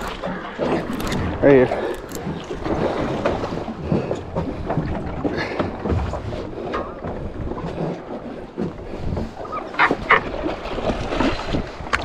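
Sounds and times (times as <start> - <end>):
water rushing and splashing: 0.0 - 12.0
wind buffeting microphone: 0.0 - 12.0.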